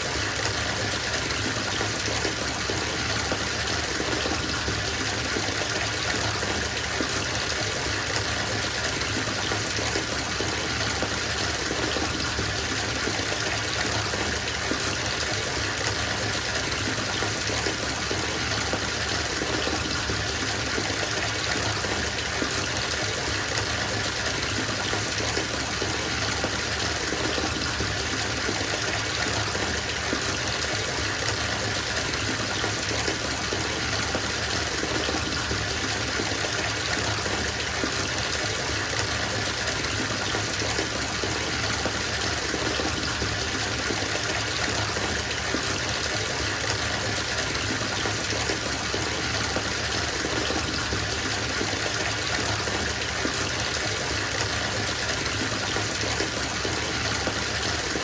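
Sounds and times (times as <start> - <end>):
tap filling bathtub: 0.0 - 58.0.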